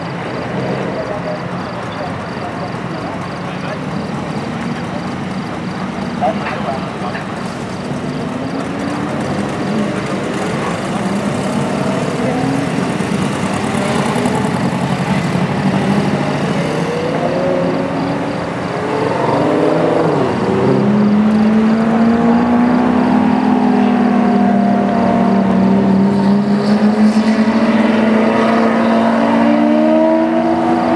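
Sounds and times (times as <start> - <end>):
sports car engines revving: 0.0 - 30.9.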